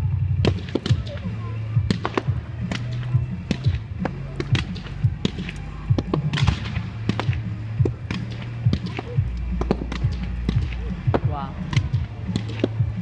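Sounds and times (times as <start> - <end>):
steady low hum: 0.0 - 13.0
fireworks cracking and banging: 0.4 - 13.0.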